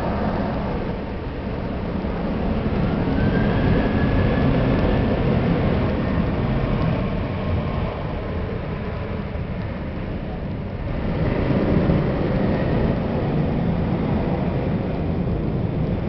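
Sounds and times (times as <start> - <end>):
faint jet whine: 0.0 - 16.0
jet engines rumbling: 0.0 - 16.0.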